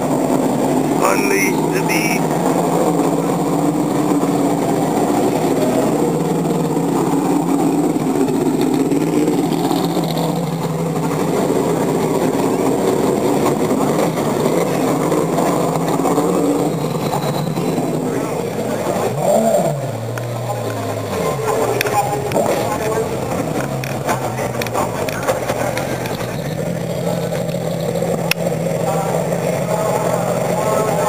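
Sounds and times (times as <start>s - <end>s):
race car engine at low revs: 0.0s - 31.0s.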